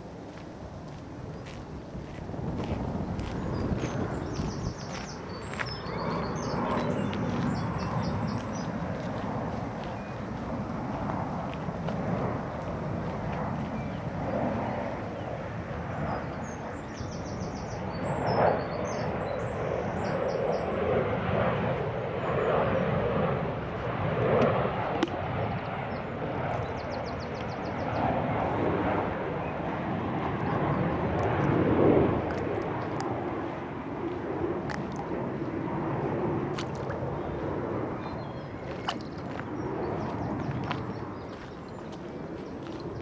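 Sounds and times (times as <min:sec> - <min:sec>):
outdoor background noise: 0:00.0 - 0:43.0.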